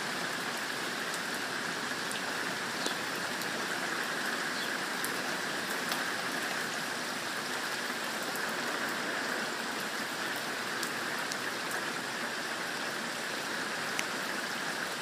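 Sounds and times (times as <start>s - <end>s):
heavy rain pouring: 0.0s - 15.0s
raindrops ticking close by: 0.0s - 15.0s.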